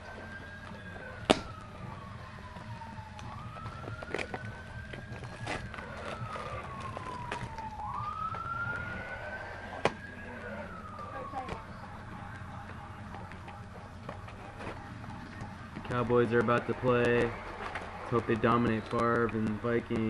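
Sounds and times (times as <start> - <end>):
emergency siren wailing: 0.0 - 20.0
low steady hum: 0.0 - 20.0.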